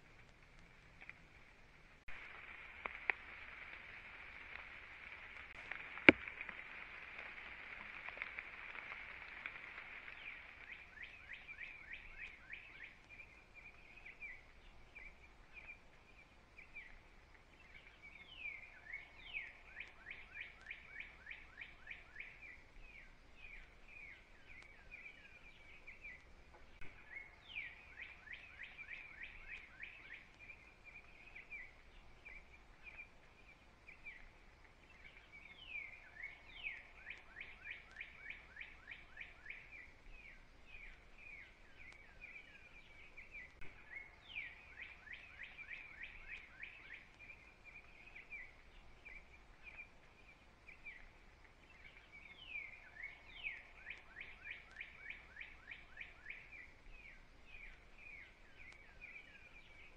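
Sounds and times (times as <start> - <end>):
bird chirping: 2.1 - 59.9.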